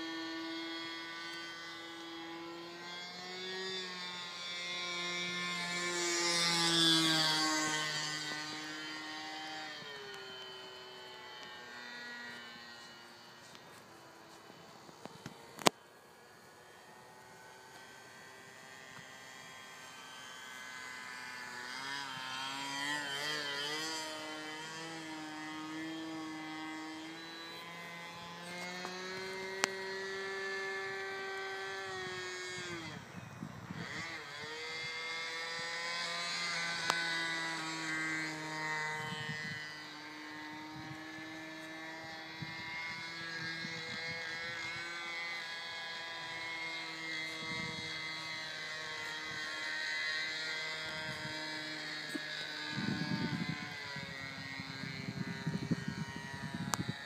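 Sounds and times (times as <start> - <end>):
model airplane engine buzzing: 0.0 - 57.0.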